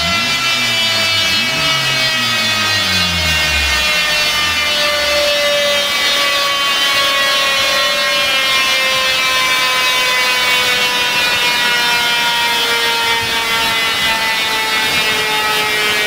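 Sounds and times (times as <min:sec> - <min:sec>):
car engine running loud and raspy: 0:00.0 - 0:16.0
dyno rollers whine: 0:00.0 - 0:16.0.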